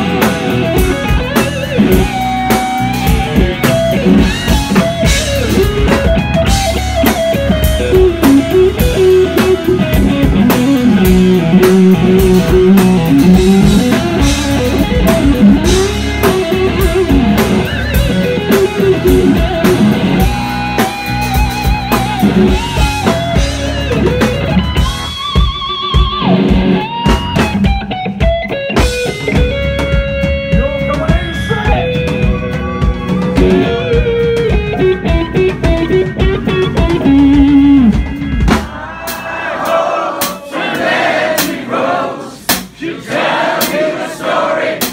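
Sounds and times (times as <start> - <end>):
electric guitar lead with bends: 0.0 - 38.7
bass guitar: 0.0 - 39.2
drum kit: 0.0 - 44.9.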